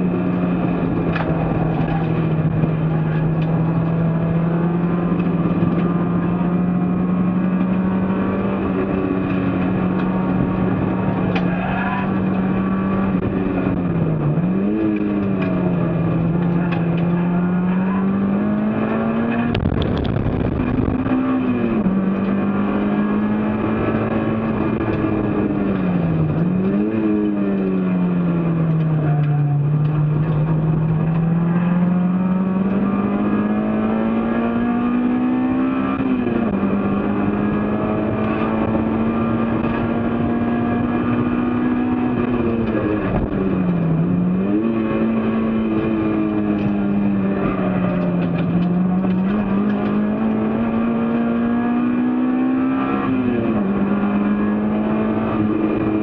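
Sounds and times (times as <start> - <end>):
race car engine running hard: 0.0 - 56.0
road and wind noise: 0.0 - 56.0.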